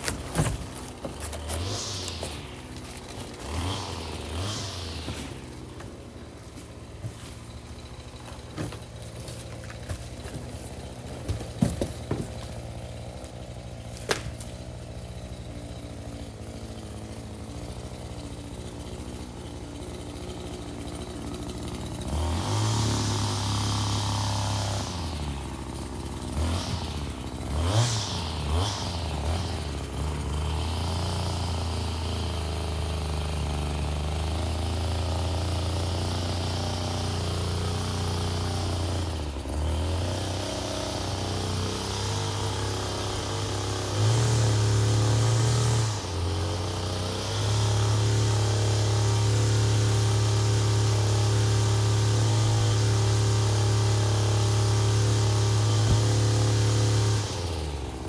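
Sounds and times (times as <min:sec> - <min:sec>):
small two-stroke engine running: 0:00.0 - 0:58.0.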